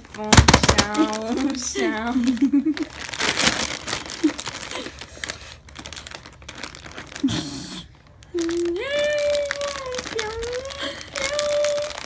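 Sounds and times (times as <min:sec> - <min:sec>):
crinkling handling noise: 0:00.0 - 0:12.0.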